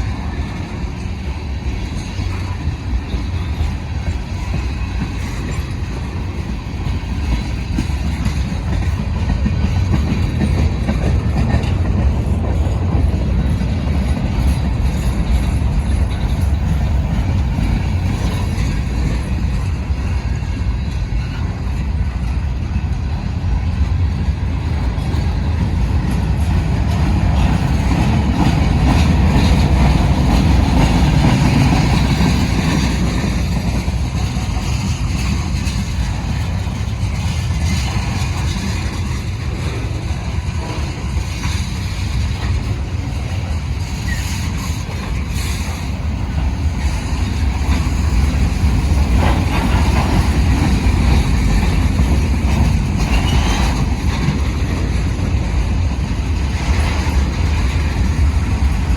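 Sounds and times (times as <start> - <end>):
freight train rumbling and rattling: 0.0 - 58.9.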